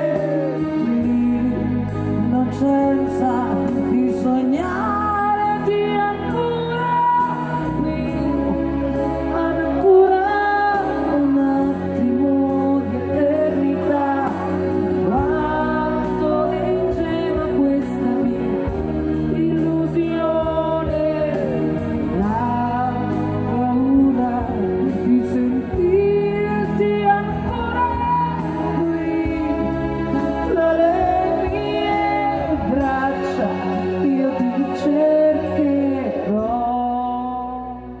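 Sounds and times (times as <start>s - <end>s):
band with keyboard and guitar: 0.0s - 38.0s
woman singing a pop ballad: 0.0s - 38.0s.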